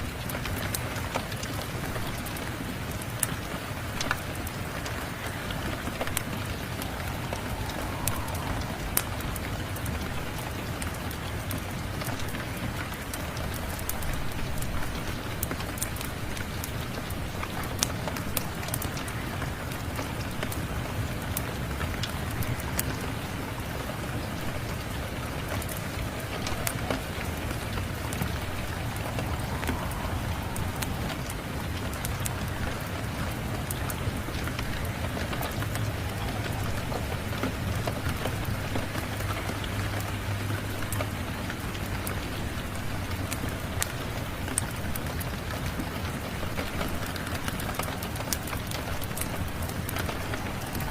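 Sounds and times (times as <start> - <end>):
rain falling: 0.0 - 50.9
wood fire crackling: 0.0 - 50.9.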